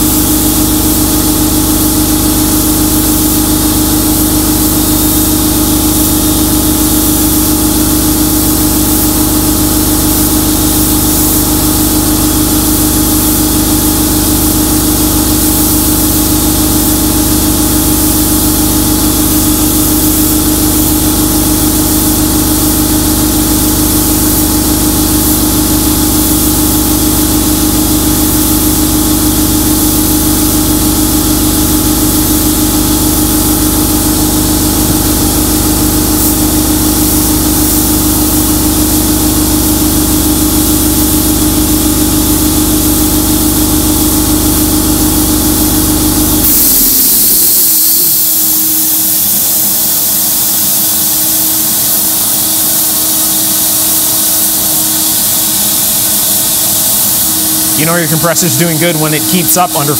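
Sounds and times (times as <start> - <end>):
hiss of bead blasting: 0.0 - 45.6, 46.2 - 59.9.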